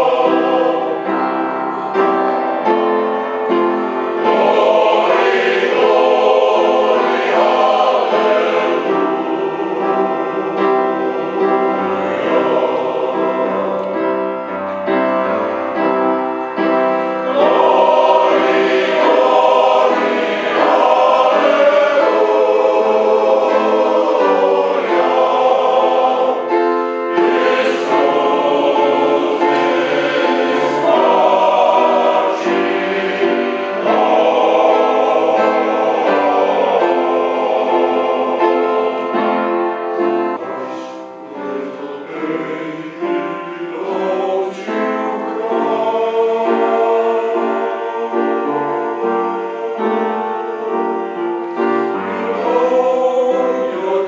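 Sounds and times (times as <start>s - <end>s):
male voice choir singing: 0.0s - 2.2s, 3.9s - 14.4s, 17.0s - 39.6s, 40.4s - 54.0s
upright piano: 0.0s - 54.0s.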